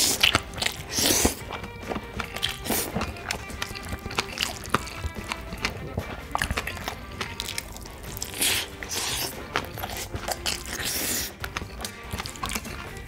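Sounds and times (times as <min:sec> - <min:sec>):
crunch of bean sprouts: 0:00.0 - 0:13.0
person chewing food: 0:00.0 - 0:13.0
wet mouth clicks: 0:00.0 - 0:13.0.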